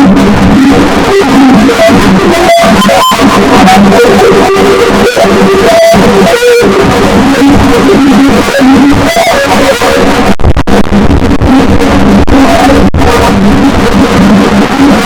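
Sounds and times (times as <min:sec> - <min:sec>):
distorted vocoder drone: 0:00.0 - 0:15.0.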